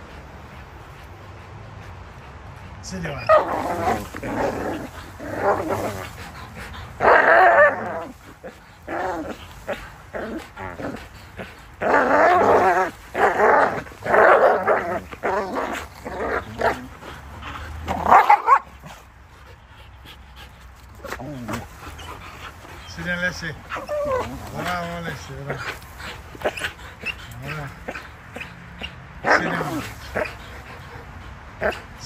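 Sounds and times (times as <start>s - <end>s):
dogs growling: 0.0s - 32.0s
dogs barking: 3.2s - 19.0s, 21.0s - 32.0s.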